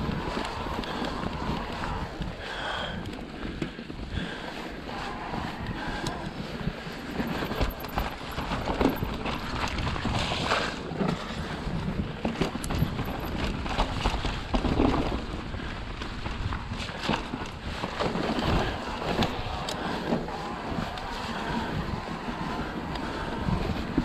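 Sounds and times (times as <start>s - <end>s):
bike tyres knocking and rattling: 0.0s - 24.0s
wind rushing over microphone: 0.0s - 24.0s.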